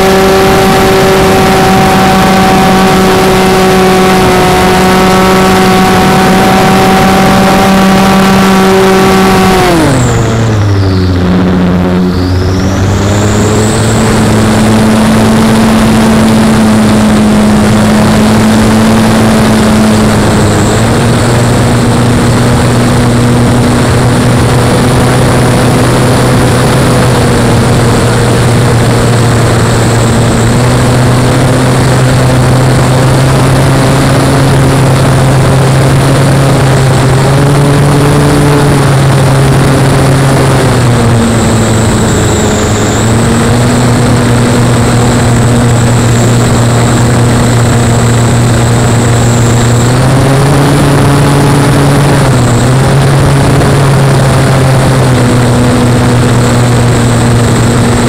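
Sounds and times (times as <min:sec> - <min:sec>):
model plane engine running: 0:00.0 - 0:58.0
propeller and air noise: 0:00.0 - 0:58.0.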